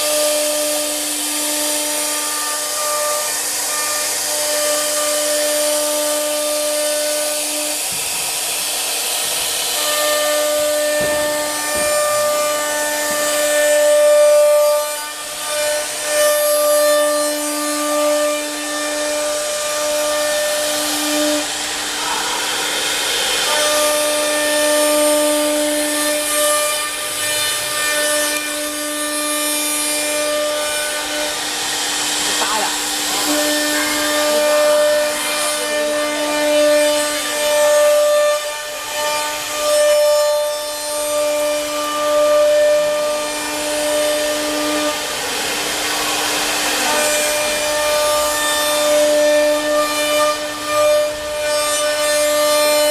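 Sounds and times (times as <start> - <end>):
router rasping cutting wood: 0.0 - 52.9
router spindle high whine: 0.0 - 52.9.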